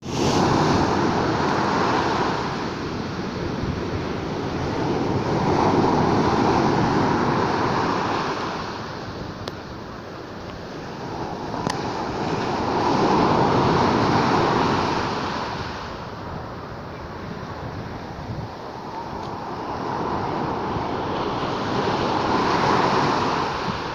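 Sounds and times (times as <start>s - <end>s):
sea waves breaking on shore: 0.0s - 23.9s.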